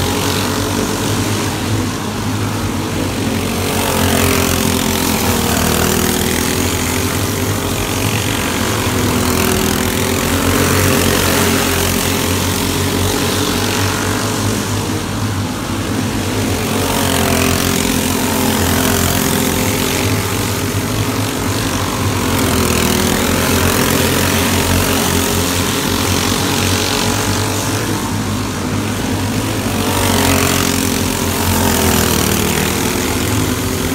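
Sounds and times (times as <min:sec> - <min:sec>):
race car engine: 0:00.0 - 0:33.9.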